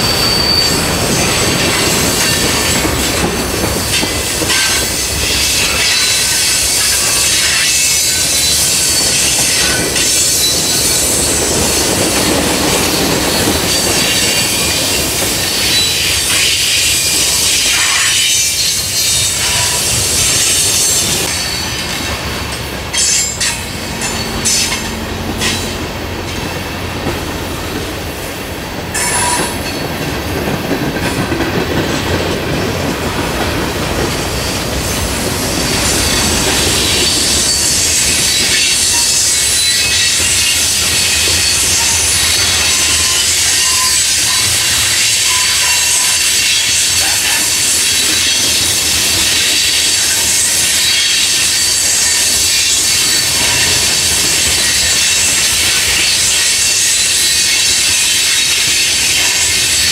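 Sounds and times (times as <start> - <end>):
train wheels squealing: 0.0 - 26.8, 28.9 - 30.5, 34.0 - 59.9
train rumble: 0.0 - 59.9
wheels clicking over rail joints: 0.8 - 59.9.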